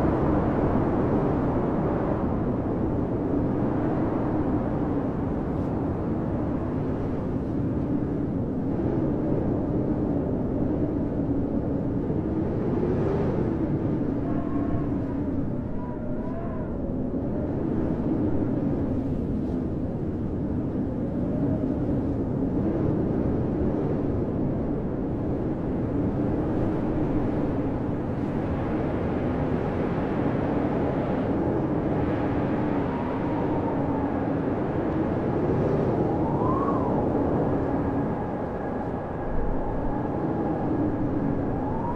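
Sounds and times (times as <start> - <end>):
blizzard wind howling: 0.0 - 41.9.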